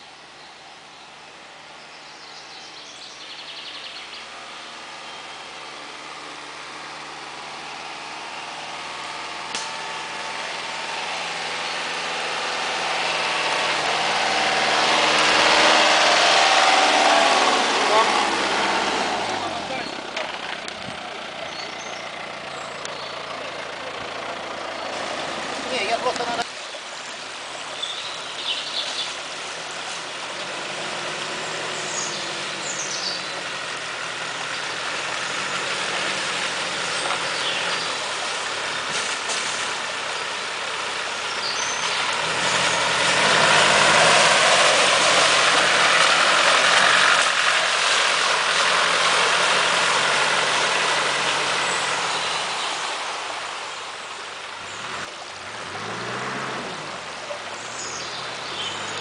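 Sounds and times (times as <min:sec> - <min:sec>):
off-road vehicle engine: 0:00.0 - 0:59.0
water splashing under wheels: 0:01.0 - 0:59.0.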